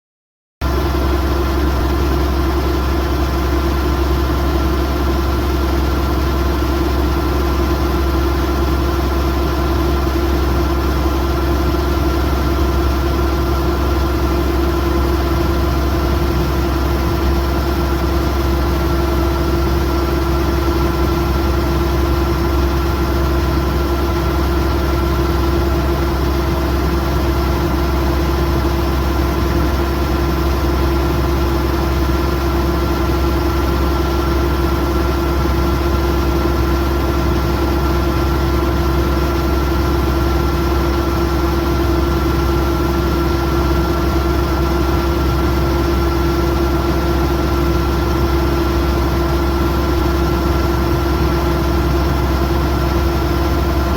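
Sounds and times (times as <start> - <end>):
combine harvester engine running: 0.6 - 53.9.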